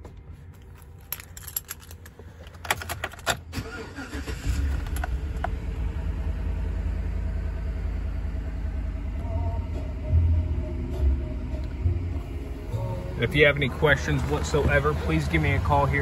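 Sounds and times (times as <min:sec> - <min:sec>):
car engine cranking and idling: 0:00.0 - 0:16.0.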